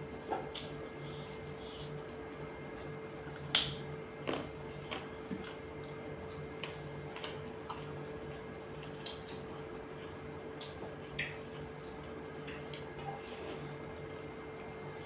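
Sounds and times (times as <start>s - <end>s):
faint steady hum: 0.0s - 15.0s
chewing smacks: 1.8s - 15.0s.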